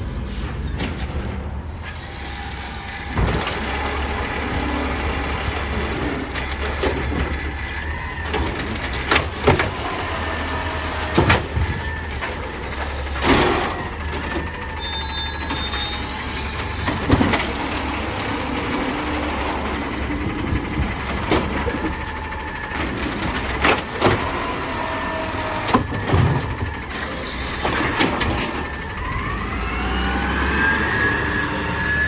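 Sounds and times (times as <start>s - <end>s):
garbage truck diesel engine: 0.0s - 32.0s.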